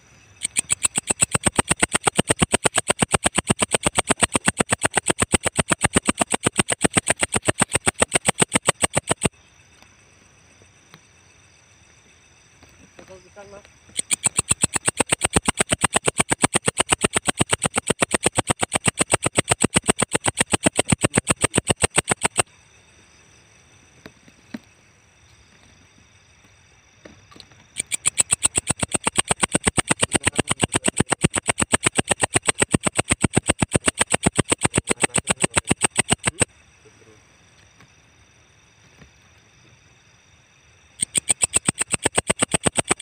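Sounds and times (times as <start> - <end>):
katydid chirping: 0.1 - 23.7, 27.6 - 37.2, 40.0 - 43.0.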